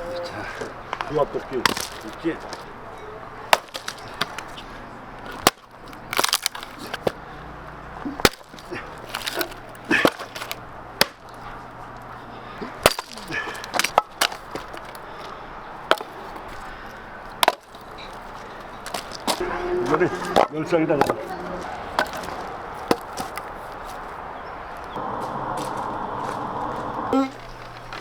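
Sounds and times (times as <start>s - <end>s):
wood splintering: 0.4s - 7.3s, 8.0s - 24.2s, 25.0s - 28.0s.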